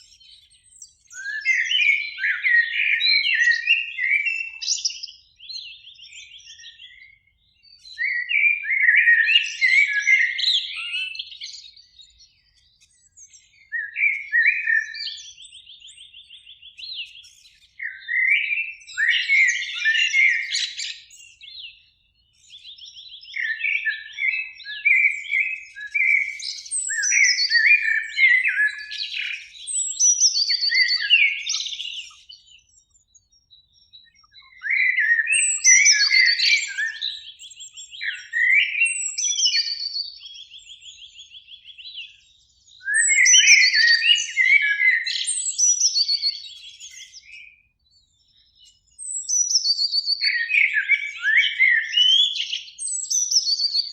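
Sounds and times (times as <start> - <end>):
blackbird singing: 0.0 - 53.9.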